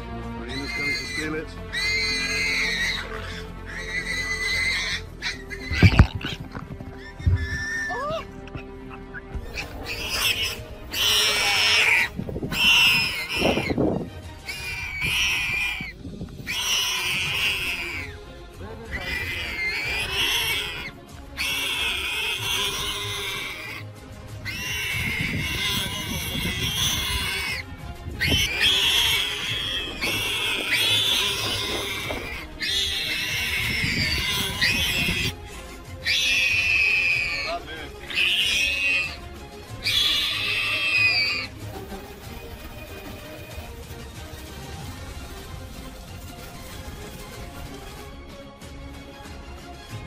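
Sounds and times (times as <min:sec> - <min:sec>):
background music: 0:00.0 - 0:50.0
warthog squealing: 0:00.4 - 0:18.2, 0:18.8 - 0:44.4.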